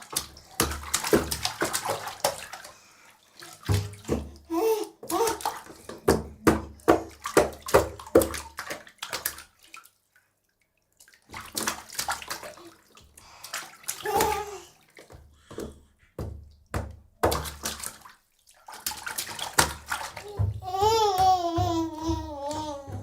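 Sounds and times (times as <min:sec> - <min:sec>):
baby splashing bath water: 0:00.0 - 0:23.0.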